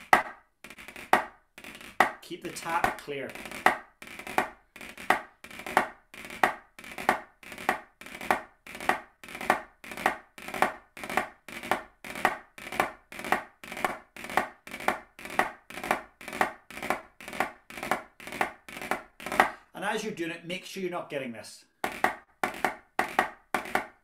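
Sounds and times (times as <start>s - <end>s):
drumsticks rolling on practice pad: 0.0s - 19.6s, 21.8s - 24.0s.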